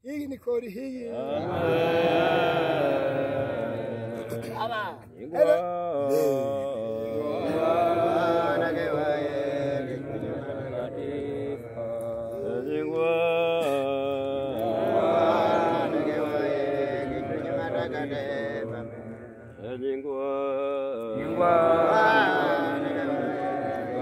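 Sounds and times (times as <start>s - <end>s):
voices chanting a prayer: 1.0s - 24.0s.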